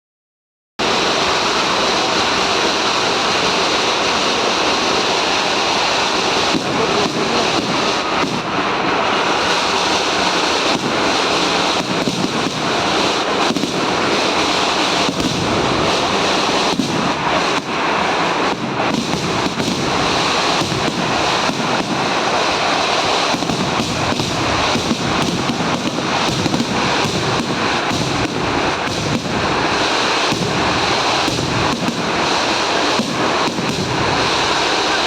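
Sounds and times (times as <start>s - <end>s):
firecrackers crackling: 0.8s - 35.0s
firework bangs: 0.8s - 35.0s.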